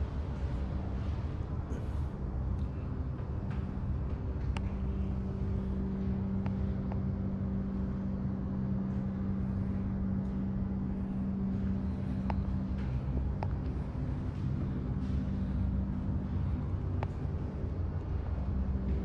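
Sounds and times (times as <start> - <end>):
ventilation system humming: 0.0 - 19.0.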